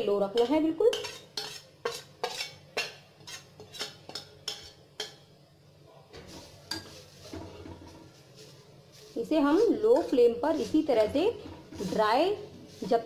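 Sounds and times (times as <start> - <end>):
spoon scraping a pan: 0.0 - 5.3, 6.2 - 13.0.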